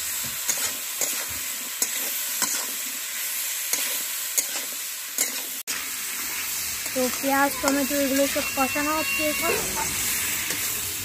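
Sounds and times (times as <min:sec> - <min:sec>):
vegetables sizzling in oil: 0:00.0 - 0:11.0
metal spatula scraping a pan: 0:00.4 - 0:03.0, 0:03.7 - 0:10.8.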